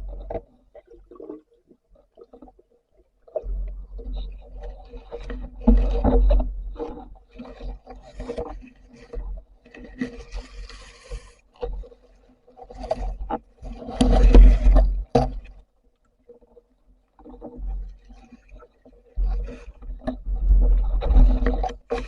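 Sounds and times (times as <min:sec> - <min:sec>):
water sloshing: 0:00.0 - 0:15.7, 0:16.3 - 0:22.0.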